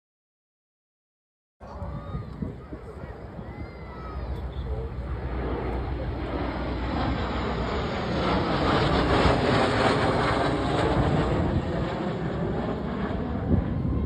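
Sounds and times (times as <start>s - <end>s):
aircraft flying past: 1.6s - 14.0s.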